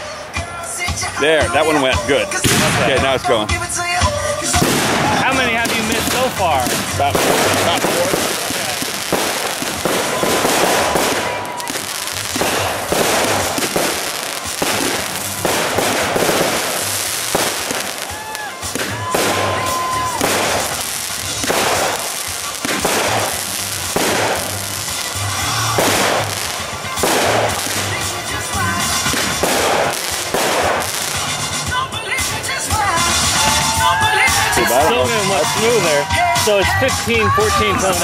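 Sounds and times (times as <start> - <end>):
fireworks bangs with crackling: 0.0 - 38.0
firework whistles: 4.2 - 36.5.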